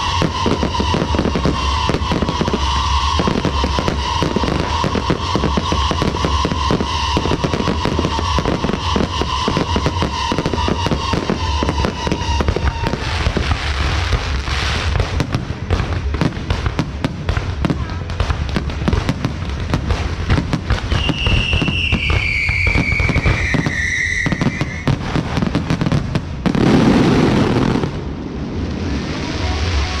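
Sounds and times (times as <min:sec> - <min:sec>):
descending firework whistles: 0:00.0 - 0:15.3, 0:20.2 - 0:30.0
firecrackers crackling bangs: 0:00.0 - 0:30.0.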